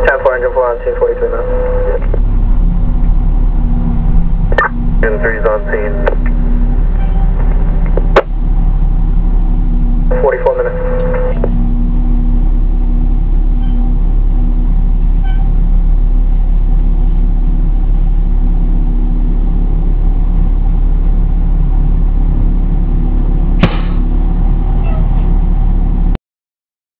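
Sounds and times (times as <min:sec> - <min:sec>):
fire engine rumble: 0:00.0 - 0:26.2.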